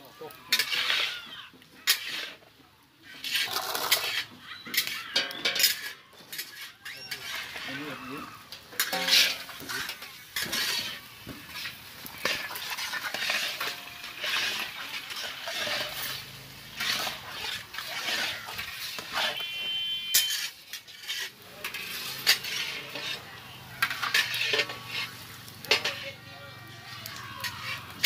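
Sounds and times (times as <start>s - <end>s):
metal spatula scraping iron pan: 0.5s - 26.8s, 27.4s - 28.0s.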